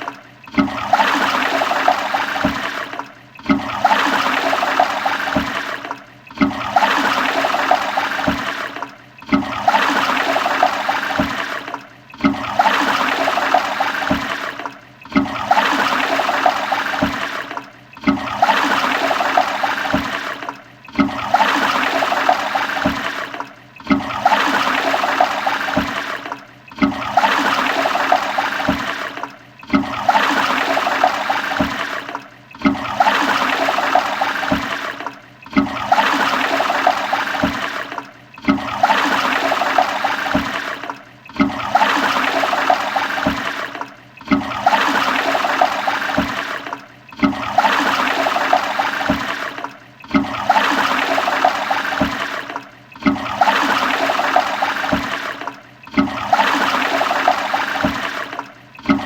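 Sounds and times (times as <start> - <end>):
toilet flushing: 0.0 - 59.0.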